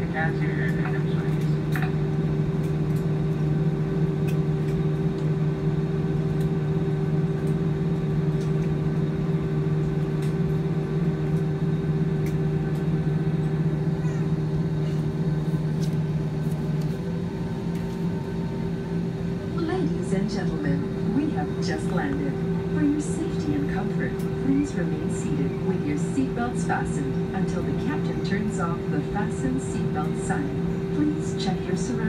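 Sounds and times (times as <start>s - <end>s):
jet engines droning and whining: 0.0s - 32.0s.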